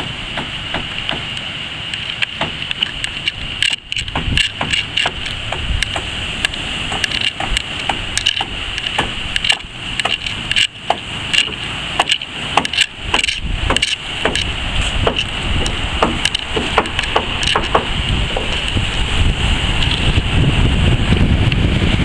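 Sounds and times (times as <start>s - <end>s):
sharp clicks and knocks: 0.0s - 18.8s
wind and surf rumble: 0.0s - 22.0s.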